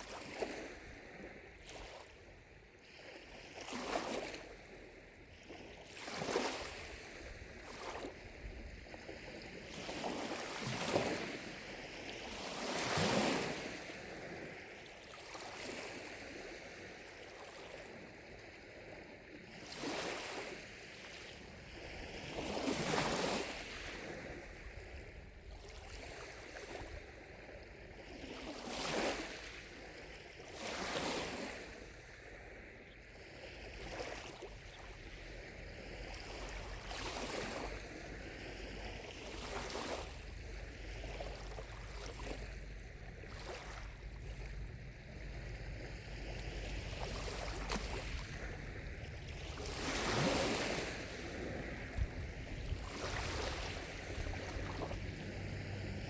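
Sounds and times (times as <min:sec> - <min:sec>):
lake waves lapping at shore: 0:00.0 - 0:56.0.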